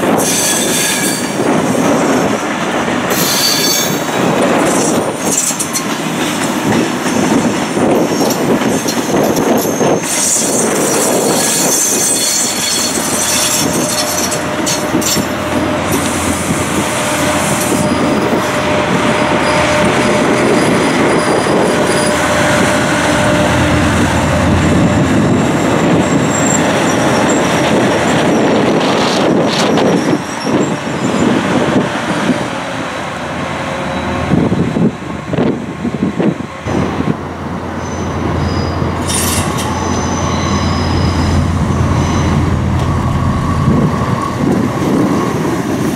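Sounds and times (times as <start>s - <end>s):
wheels squealing on rails: 0.0s - 32.5s, 33.6s - 45.9s
train rumble: 0.0s - 45.9s.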